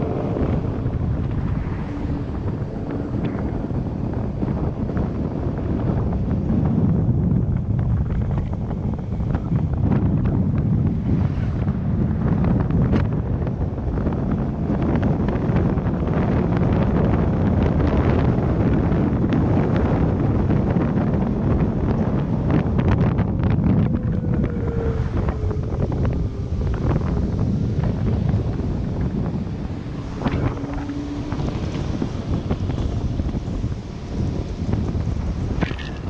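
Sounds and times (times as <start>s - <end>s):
moving car rumble: 0.0s - 36.0s
wind buffeting microphone: 0.0s - 36.0s.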